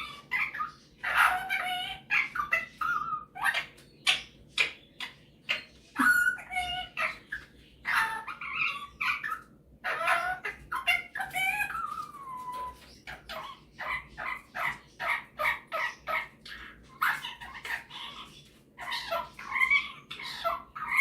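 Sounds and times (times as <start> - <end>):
parrot chattering and whistling: 0.0 - 21.0.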